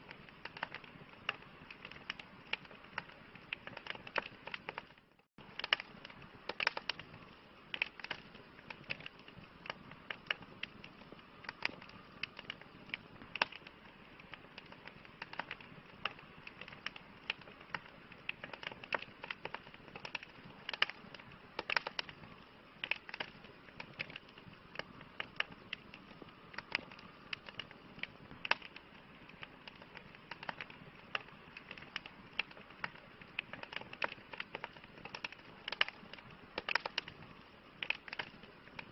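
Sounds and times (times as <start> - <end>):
campfire crackling and popping: 0.0 - 38.9
soft steady hiss: 0.0 - 38.9.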